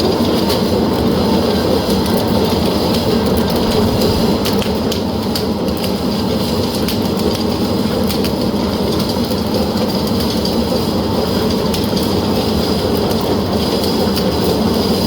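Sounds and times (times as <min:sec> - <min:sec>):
welding machine rumble and clatter: 0:00.0 - 0:15.0.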